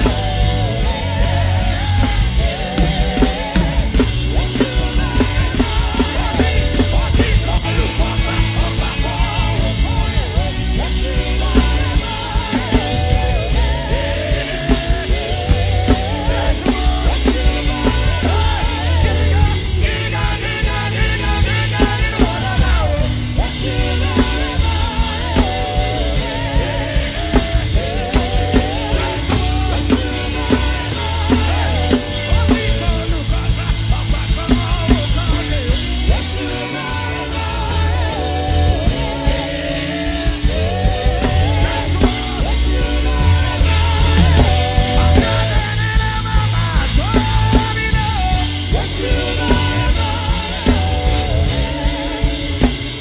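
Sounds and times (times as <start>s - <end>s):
drum kit played fast: 0.0s - 53.0s
live band music: 0.0s - 53.0s.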